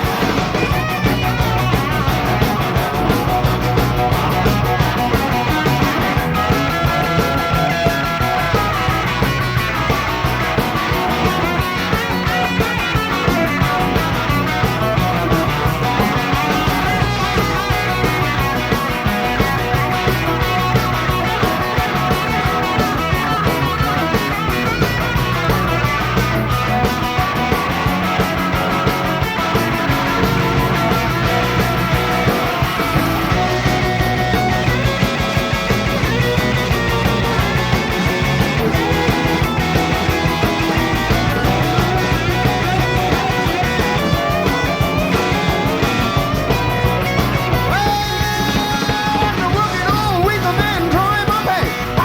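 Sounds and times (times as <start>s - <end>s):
bass guitar: 0.0s - 52.0s
drums beating: 0.0s - 52.0s
electric guitars: 0.0s - 52.0s.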